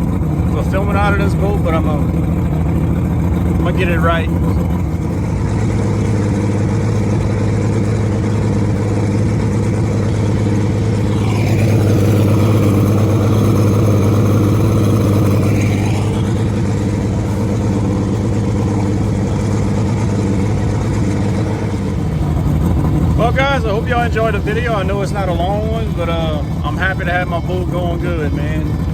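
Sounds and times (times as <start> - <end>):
outboard motor running: 0.0 - 28.9.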